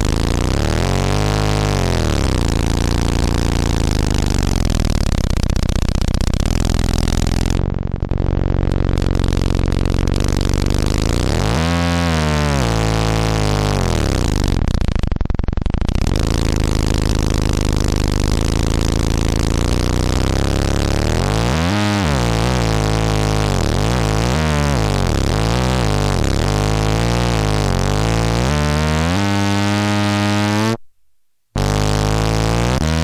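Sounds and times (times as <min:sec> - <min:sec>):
distorted synth drone: 0:00.0 - 0:30.8, 0:31.6 - 0:33.0.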